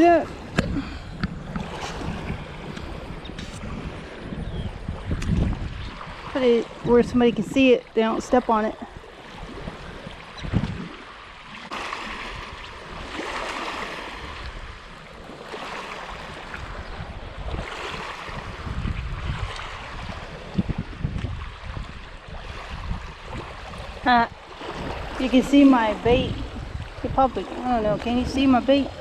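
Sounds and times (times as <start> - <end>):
small waves washing on shore: 0.0 - 29.0
wind buffeting microphone: 0.0 - 29.0.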